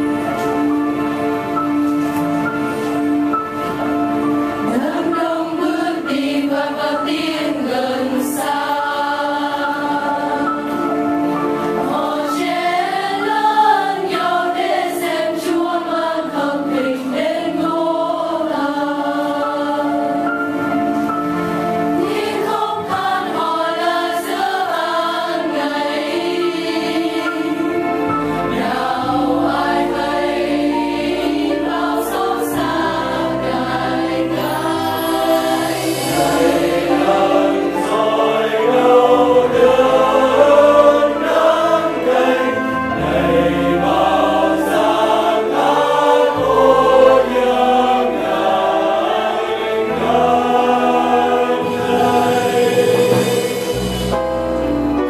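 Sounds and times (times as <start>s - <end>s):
mixed choir singing: 0.0s - 1.4s, 4.6s - 21.3s, 21.9s - 54.3s
keyboard and piano: 0.0s - 55.0s.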